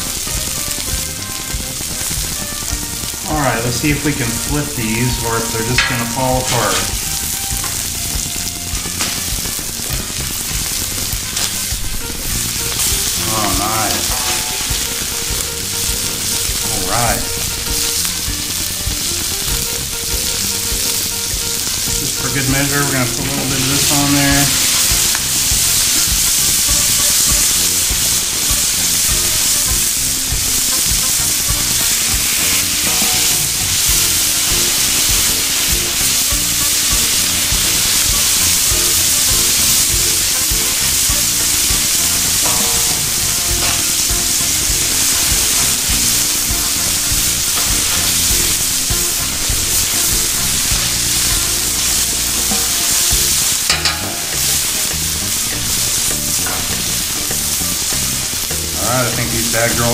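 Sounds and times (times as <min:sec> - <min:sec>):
food sizzling on a griddle: 0:00.0 - 0:59.9.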